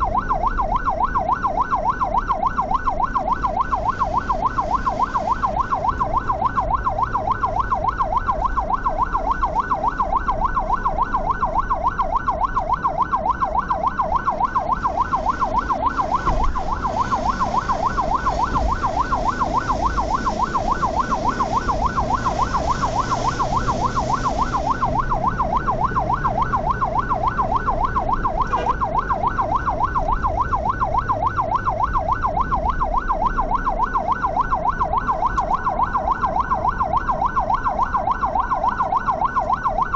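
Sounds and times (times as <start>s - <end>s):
ambulance siren yelping: 0.0s - 39.9s
vehicle engine and tyres rumbling: 0.0s - 39.9s.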